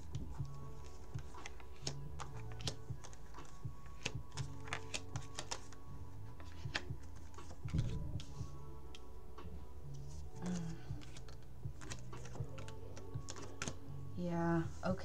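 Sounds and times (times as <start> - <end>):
soft music of low notes: 0.0 - 15.0.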